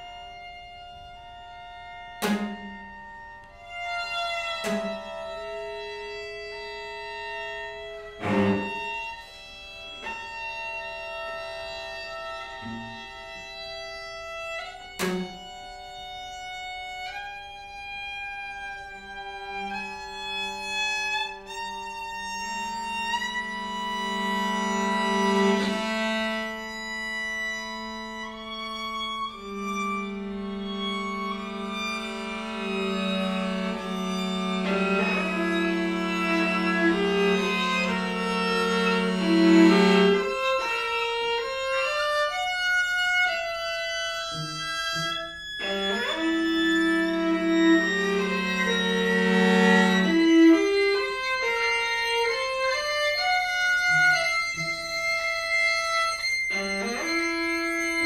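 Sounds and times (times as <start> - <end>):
cello low sustained note: 0.0 - 58.0
string quartet playing: 0.0 - 58.0.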